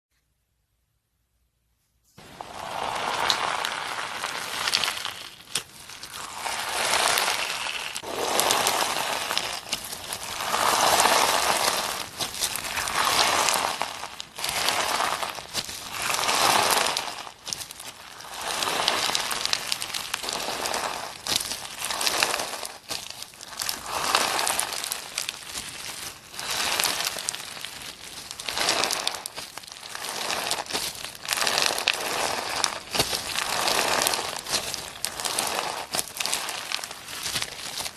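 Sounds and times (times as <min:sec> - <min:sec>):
slime squeezed and kneaded: 0:02.2 - 0:37.9.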